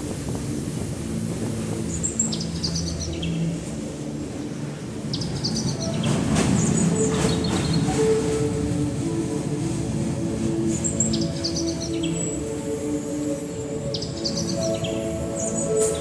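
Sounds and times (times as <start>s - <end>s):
moving train rumble: 0.0s - 16.0s.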